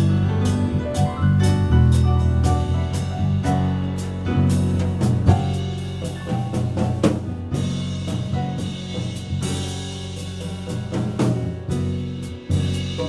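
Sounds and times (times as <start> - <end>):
jazz band playing live: 0.0 - 13.0.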